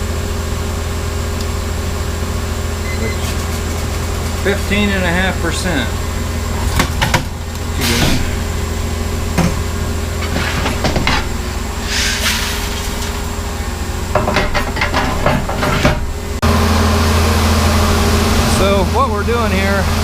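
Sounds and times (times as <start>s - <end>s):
farm machinery hum: 0.0s - 20.0s.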